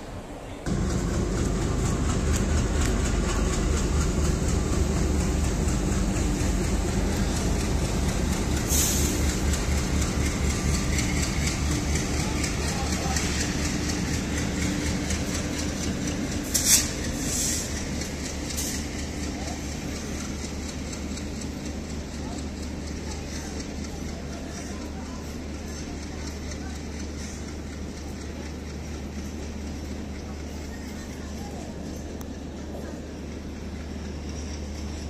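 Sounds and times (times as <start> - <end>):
train wheels rumbling: 0.0 - 35.0
diesel locomotive engine throb: 0.7 - 35.0.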